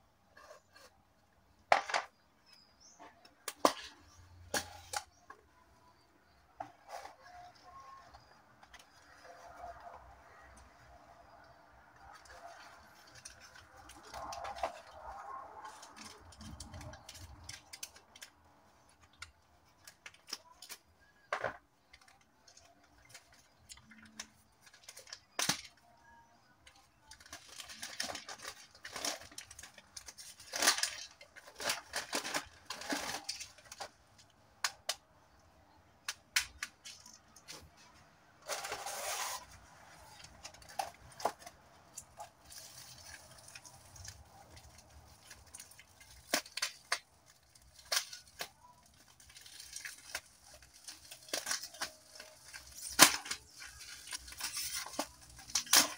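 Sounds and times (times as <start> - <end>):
packaging crinkling and rustling: 6.2 - 34.8, 36.4 - 55.9.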